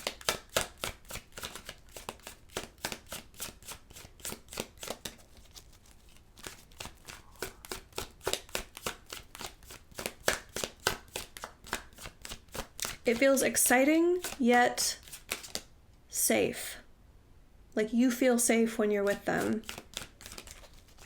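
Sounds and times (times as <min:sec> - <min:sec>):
cards being shuffled: 0:00.0 - 0:15.7, 0:19.0 - 0:21.0.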